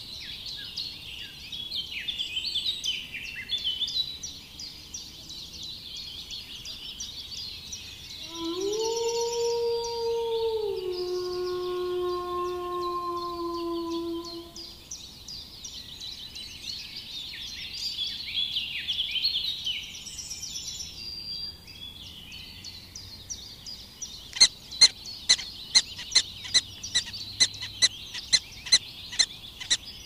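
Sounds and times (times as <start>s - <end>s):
small birds chirping and singing: 0.0s - 30.0s.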